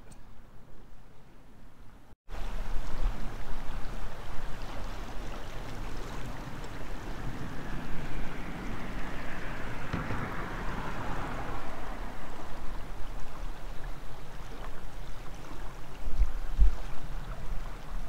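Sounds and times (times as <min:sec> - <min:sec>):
river water rushing: 0:02.3 - 0:18.0
wind buffeting microphone: 0:02.4 - 0:18.0.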